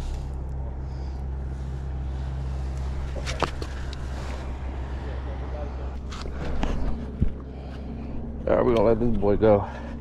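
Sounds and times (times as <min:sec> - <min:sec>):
low outdoor hum: 0:00.0 - 0:10.0.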